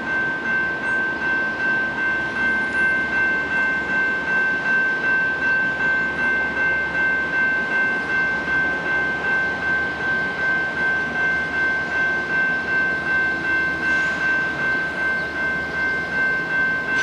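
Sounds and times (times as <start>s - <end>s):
bell ringing rapidly: 0.0s - 17.0s
diesel freight train rumble: 0.0s - 17.0s.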